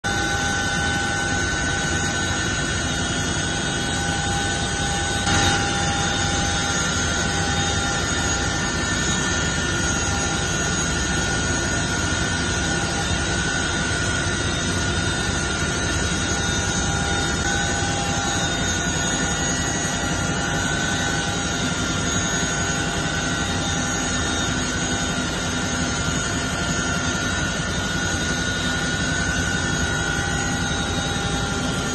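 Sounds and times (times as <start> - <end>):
helicopter turbine engines: 0.0 - 31.9.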